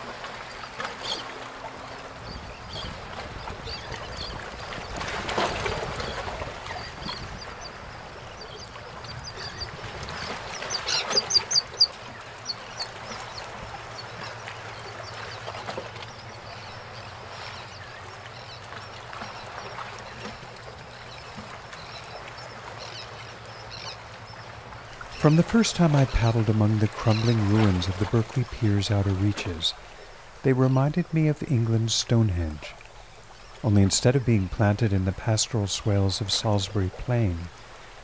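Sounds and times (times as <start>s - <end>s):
water lapping around a boat: 0.0s - 38.0s
birds calling: 0.3s - 38.0s.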